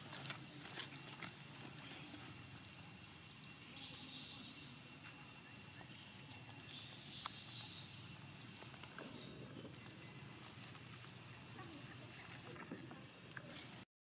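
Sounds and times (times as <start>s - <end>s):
steady high hum: 0.0s - 13.8s.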